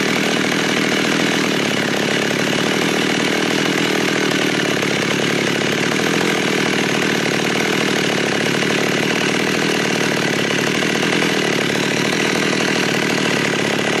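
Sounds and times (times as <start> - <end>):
chainsaw idling: 0.0 - 14.0.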